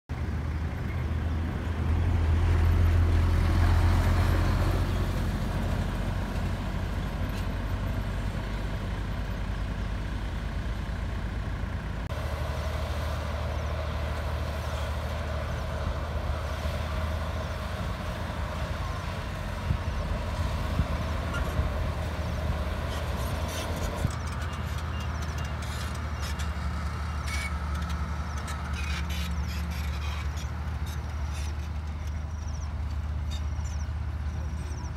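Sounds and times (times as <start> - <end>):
diesel engines droning: 0.1 - 34.9.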